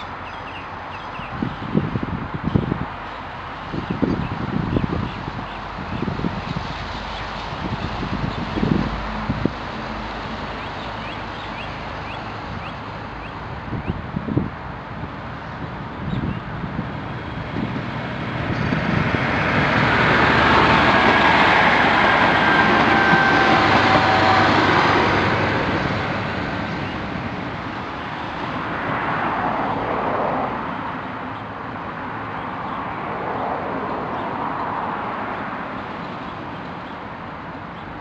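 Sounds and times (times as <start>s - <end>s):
distant diesel train approaching: 0.0s - 38.0s
wheel and rail noise: 0.0s - 38.0s
electric train passing: 4.5s - 38.0s.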